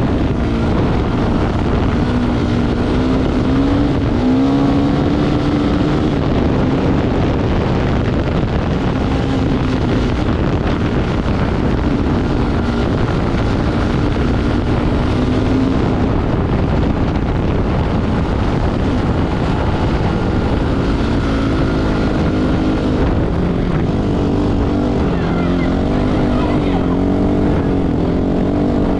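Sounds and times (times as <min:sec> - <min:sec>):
off-road vehicle engine revving: 0:00.0 - 0:28.9
wind buffeting microphone: 0:00.0 - 0:28.9.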